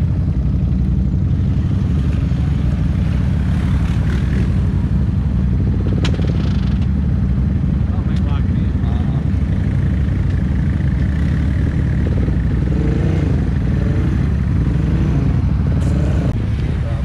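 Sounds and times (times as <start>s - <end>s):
quad engine running hard: 0.0s - 17.0s
tires churning mud: 0.0s - 17.0s.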